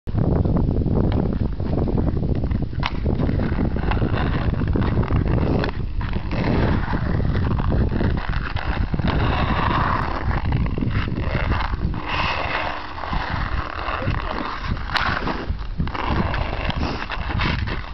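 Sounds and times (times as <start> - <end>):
wind buffeting microphone: 0.1 - 17.9.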